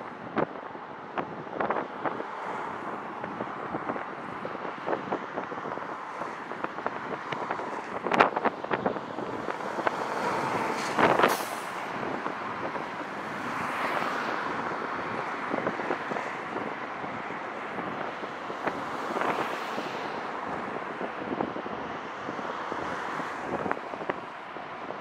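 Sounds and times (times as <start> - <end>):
wind buffeting microphone: 0.0 - 25.0
cars whooshing past: 1.6 - 4.4, 5.4 - 24.9.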